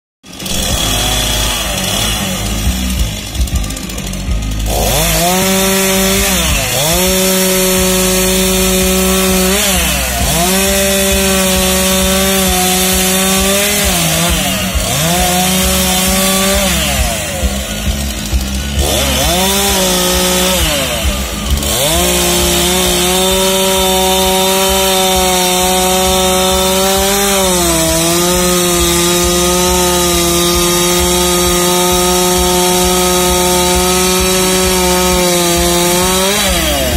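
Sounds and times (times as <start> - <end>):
chainsaw cutting wood: 0.2 - 36.9.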